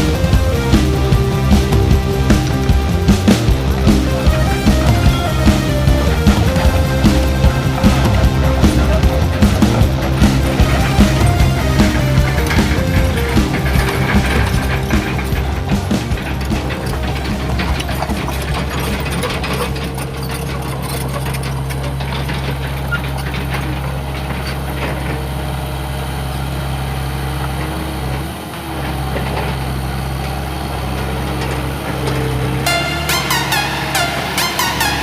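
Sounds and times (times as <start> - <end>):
heavy truck engine idling: 0.0 - 35.0.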